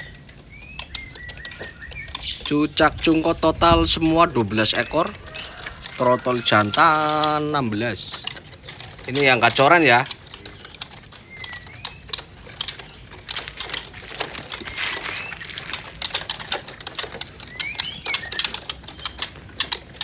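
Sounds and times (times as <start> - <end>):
birds fluttering in cages: 0.0 - 20.0.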